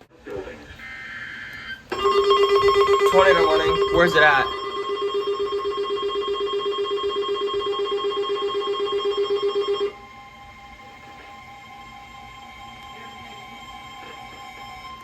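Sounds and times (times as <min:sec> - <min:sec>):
faint steady electronic tone: 0:00.4 - 0:15.0
rapidly pulsing electronic tone: 0:01.9 - 0:15.0.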